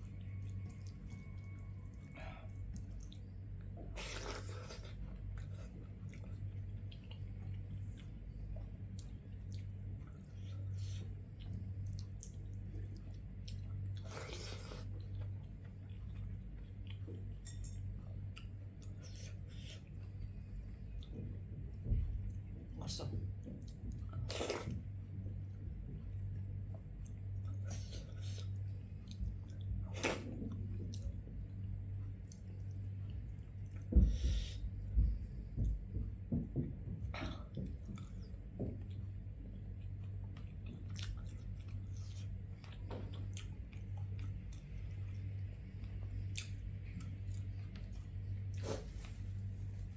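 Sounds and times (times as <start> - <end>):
person chewing food: 0.0 - 21.5, 22.2 - 49.9
low hum: 0.0 - 49.9.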